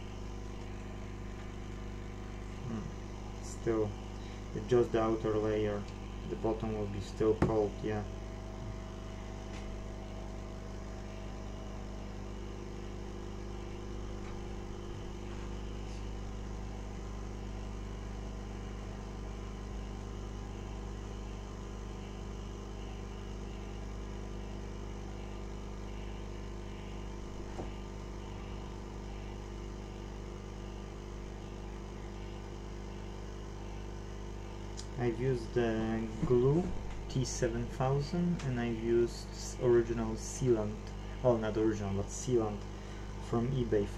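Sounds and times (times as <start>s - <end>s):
hot air station fan blowing: 0.0s - 43.9s.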